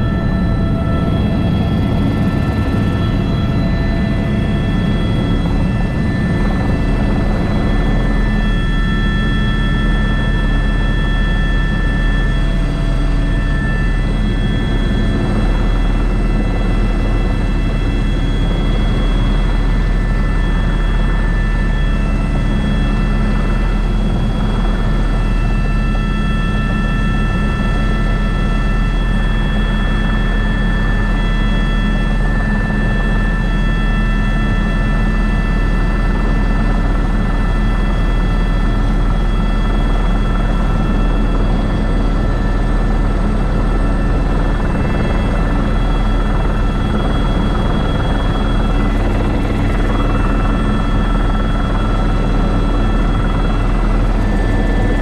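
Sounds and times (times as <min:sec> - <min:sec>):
helicopter rotor rumble: 0:00.0 - 0:55.0
helicopter turbine whine: 0:00.0 - 0:55.0.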